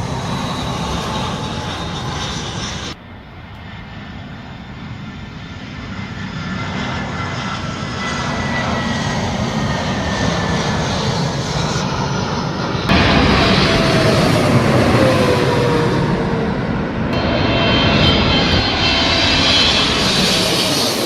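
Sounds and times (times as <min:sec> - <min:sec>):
jet airliner engines: 0:00.0 - 0:21.0.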